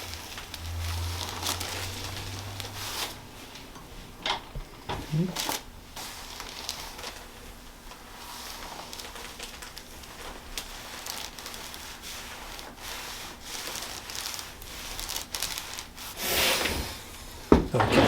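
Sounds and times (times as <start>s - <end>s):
rustling against treatment table: 0.0s - 18.0s.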